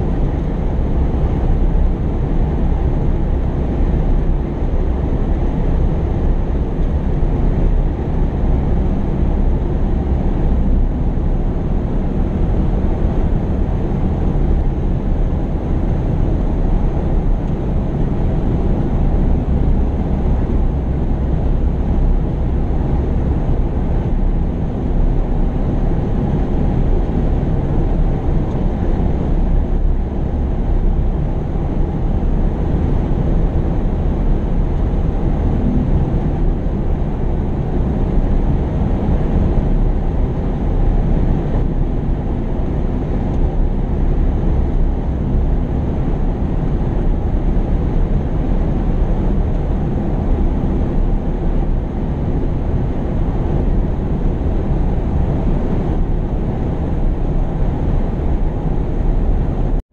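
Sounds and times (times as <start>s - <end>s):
heavy machinery diesel engine rumbling: 0.0s - 59.8s.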